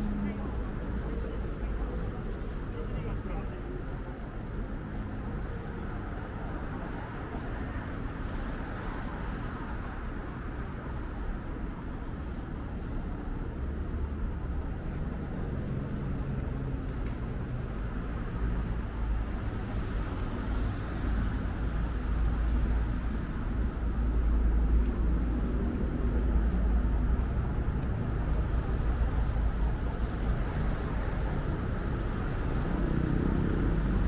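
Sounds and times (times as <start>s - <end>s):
cars driving past: 0.0s - 34.0s.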